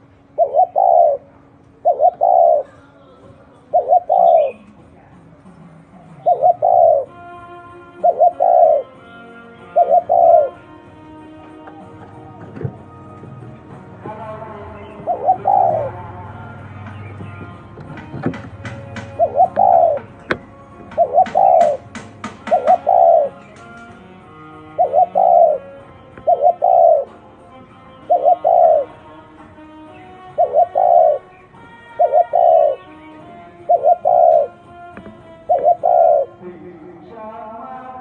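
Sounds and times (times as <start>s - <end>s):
dove cooing: 0.0s - 4.8s, 5.4s - 36.6s.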